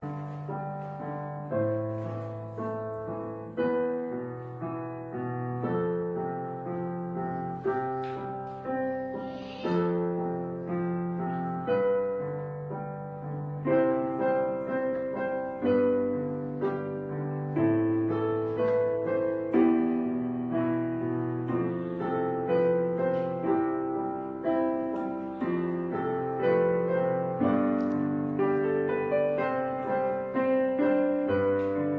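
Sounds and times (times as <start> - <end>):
slow piano music: 0.0 - 31.9.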